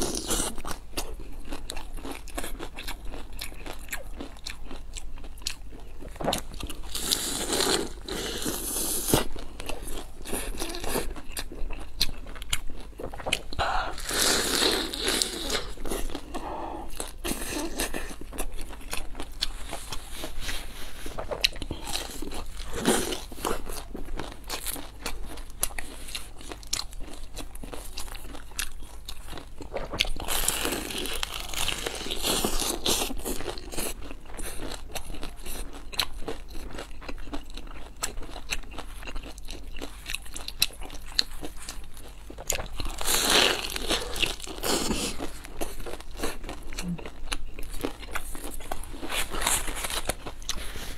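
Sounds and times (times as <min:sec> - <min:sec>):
crunchy chewing: 0:00.0 - 0:50.9.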